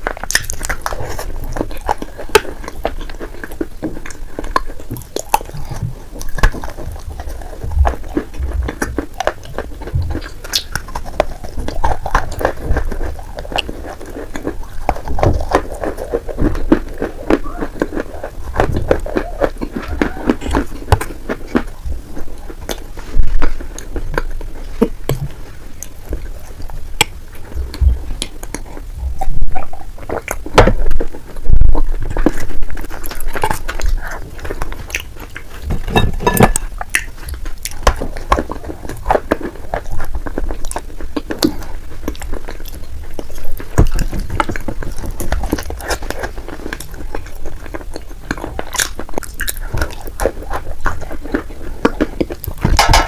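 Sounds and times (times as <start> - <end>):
chewing crunchy clay: 0.0 - 53.0.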